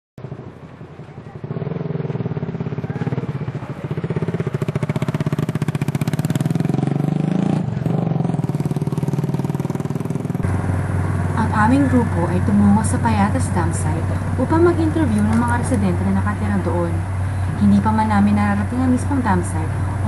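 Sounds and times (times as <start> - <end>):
motorcycle engine running: 0.2 - 20.0.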